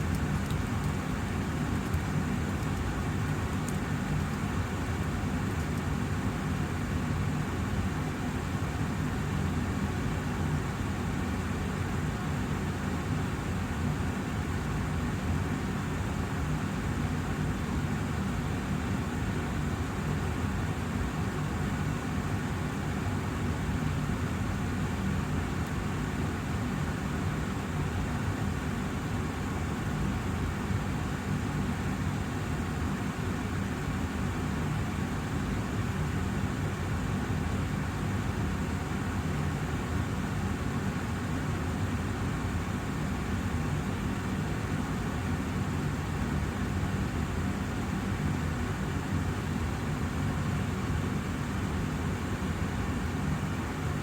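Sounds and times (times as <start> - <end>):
air purifier fan running: 0.0 - 54.0.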